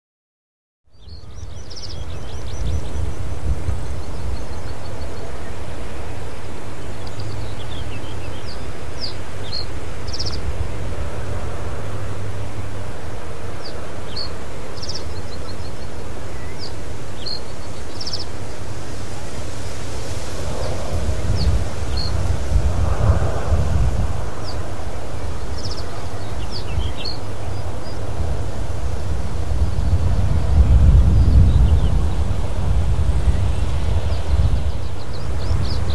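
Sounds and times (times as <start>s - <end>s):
wind rumble on microphone: 0.9s - 35.9s.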